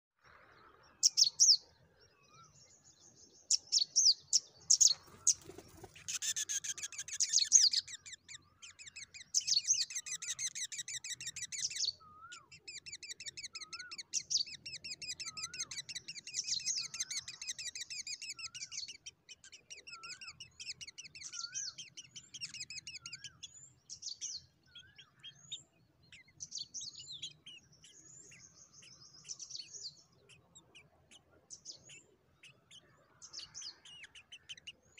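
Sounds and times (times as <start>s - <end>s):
nestlings begging calls: 3.5s - 34.9s.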